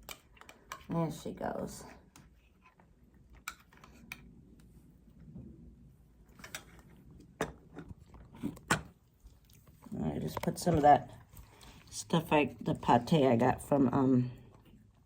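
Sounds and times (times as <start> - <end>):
cat chewing and licking food: 0.0 - 15.0.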